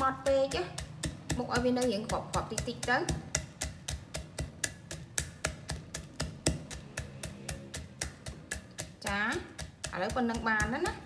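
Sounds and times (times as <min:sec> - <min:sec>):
wooden pestle pounding in mortar: 0:00.0 - 0:11.0.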